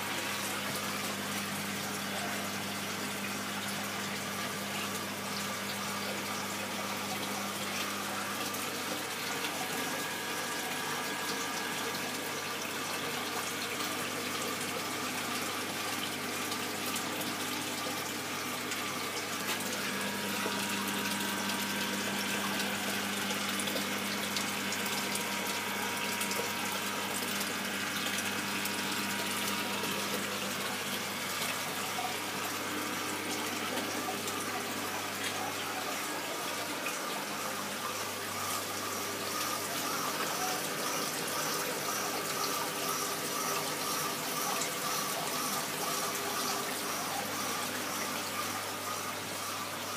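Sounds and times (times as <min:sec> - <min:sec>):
low pump hum: 0:00.0 - 0:49.9
water rushing and trickling: 0:00.0 - 0:49.9.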